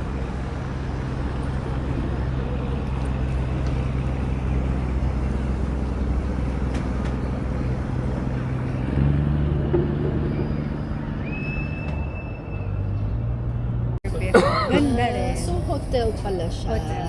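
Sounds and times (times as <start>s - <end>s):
street traffic engines droning: 0.0s - 17.0s.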